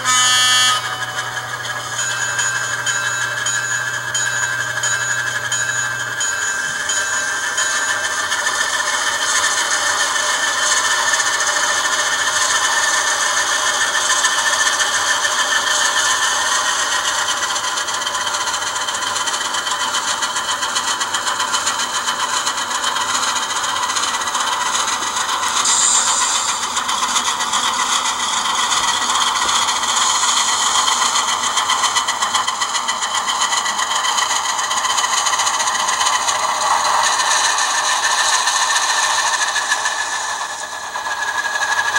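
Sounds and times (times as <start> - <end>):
model locomotive diesel engine sound: 0.0 - 41.9.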